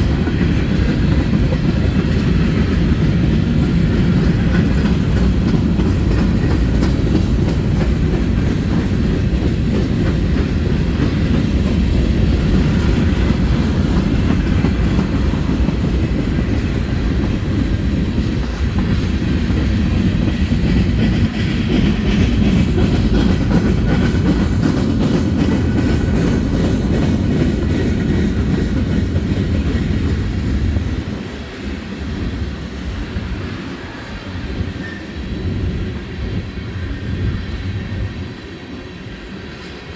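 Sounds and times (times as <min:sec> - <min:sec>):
freight train wheels clacking: 0:00.0 - 0:39.9
heavy train rumble: 0:00.0 - 0:39.9.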